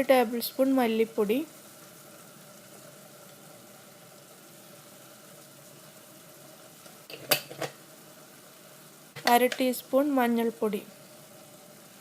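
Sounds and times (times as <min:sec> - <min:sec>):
sauce simmering in a pan: 0:00.0 - 0:12.0.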